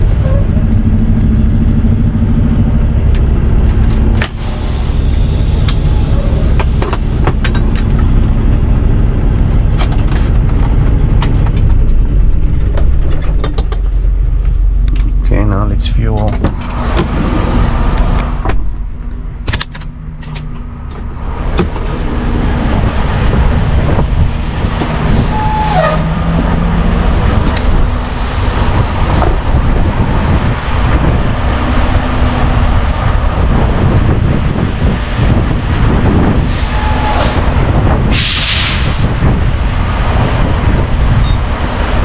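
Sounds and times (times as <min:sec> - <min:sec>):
diesel truck engine rumbling: 0:00.0 - 0:42.0.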